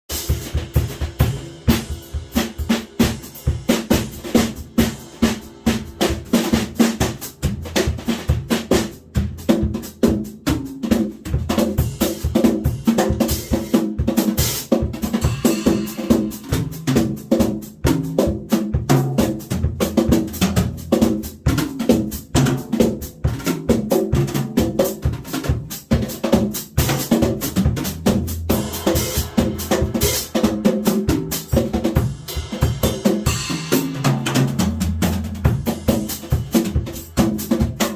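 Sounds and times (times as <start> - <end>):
bass drum beats: 0.1 - 37.9.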